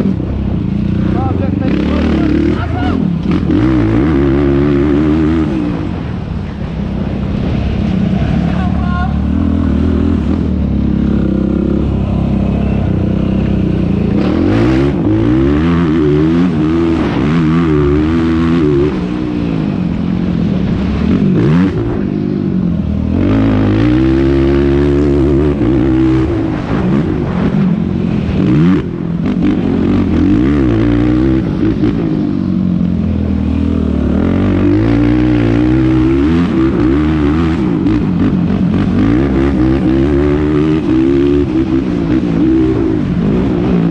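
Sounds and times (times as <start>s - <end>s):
quad engine revving: 0.0s - 6.1s, 8.2s - 19.6s, 20.8s - 27.5s, 28.1s - 43.9s.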